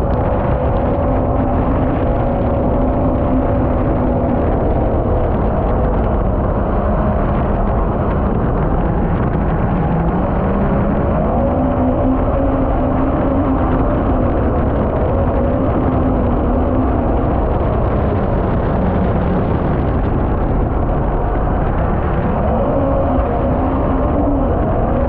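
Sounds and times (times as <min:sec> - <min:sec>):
boat engine running: 0:00.0 - 0:25.0
rush of jet and water: 0:00.0 - 0:25.0.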